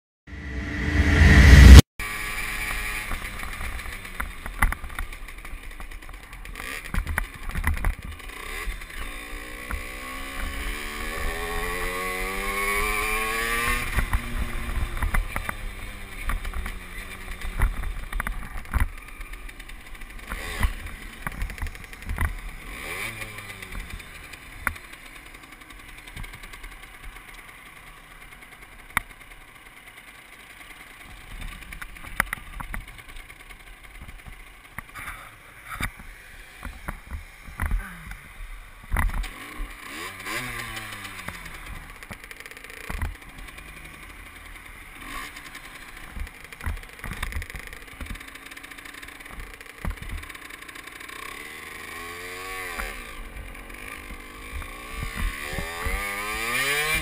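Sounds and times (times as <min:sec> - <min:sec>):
moped engine: 0:00.3 - 0:57.0.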